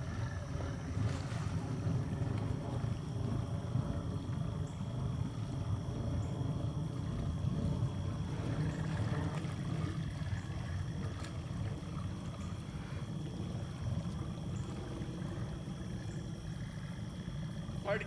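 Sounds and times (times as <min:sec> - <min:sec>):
three-wheeler engine rumbling: 0:00.0 - 0:18.0
water churning: 0:00.0 - 0:18.0.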